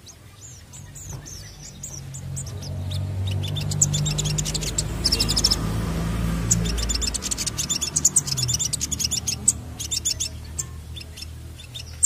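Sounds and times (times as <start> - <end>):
bird singing high trills: 0.0 - 12.0.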